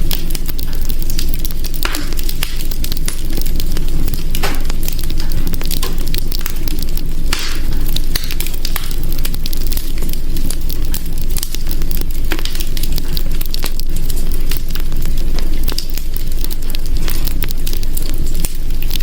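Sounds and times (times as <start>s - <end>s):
fire crackling and popping: 0.0s - 19.0s
fire hissing: 0.0s - 19.0s
fire rumbling: 0.0s - 19.0s.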